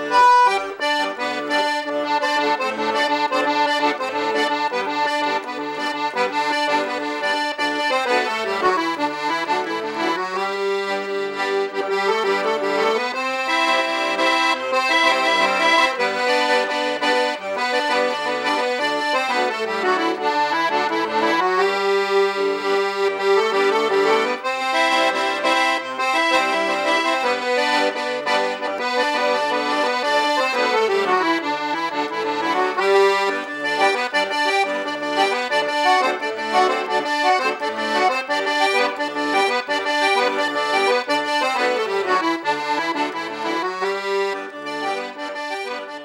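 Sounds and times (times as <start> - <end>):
accordion music: 0.0 - 46.0.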